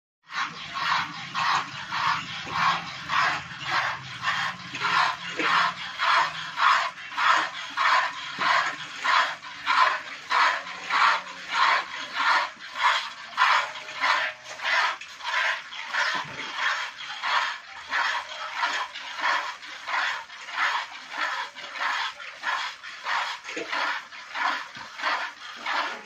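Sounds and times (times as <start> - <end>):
milk squirting into bucket: 0.3 - 26.0.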